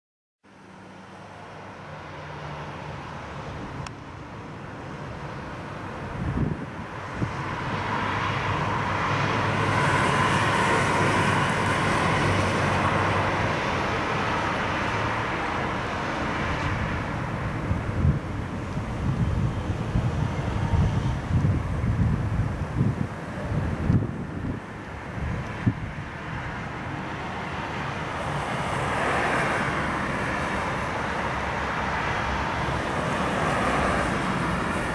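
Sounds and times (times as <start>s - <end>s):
distant jet rumble overhead: 0.5s - 34.9s.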